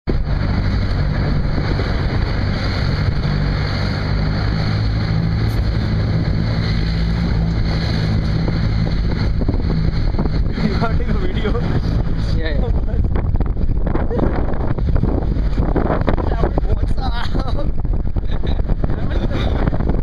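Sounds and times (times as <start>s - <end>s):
road rumble: 0.0s - 20.0s
vehicle engine running: 0.1s - 16.6s
wind noise: 0.1s - 20.0s.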